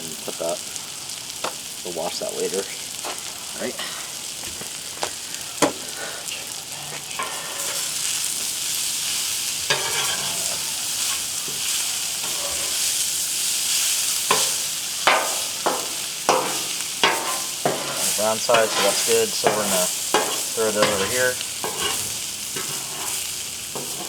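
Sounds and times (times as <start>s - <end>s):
food sizzling on griddle: 0.0s - 24.0s.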